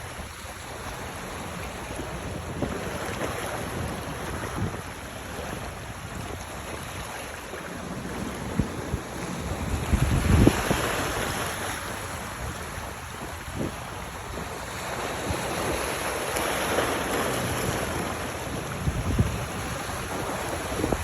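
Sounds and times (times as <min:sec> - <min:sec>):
rushing water: 0:00.0 - 0:21.0
wind buffeting microphone: 0:00.0 - 0:21.0.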